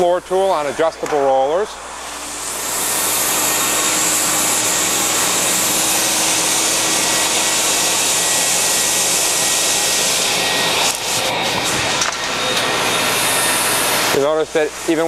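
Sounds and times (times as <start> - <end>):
industrial vacuum rushing air: 0.0 - 15.0.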